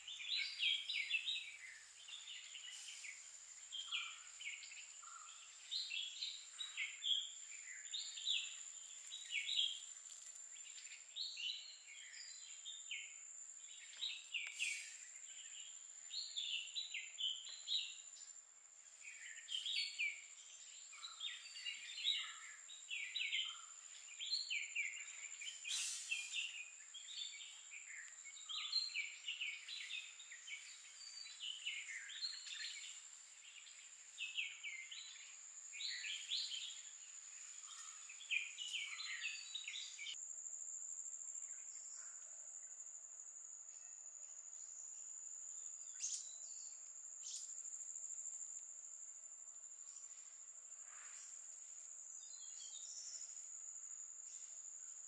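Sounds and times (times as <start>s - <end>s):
insect drone: 0.0s - 55.0s
songbird singing: 0.0s - 55.0s.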